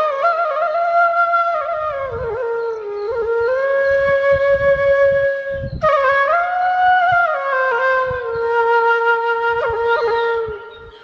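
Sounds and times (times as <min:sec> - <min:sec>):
flute playing slow melody: 0:00.0 - 0:11.0.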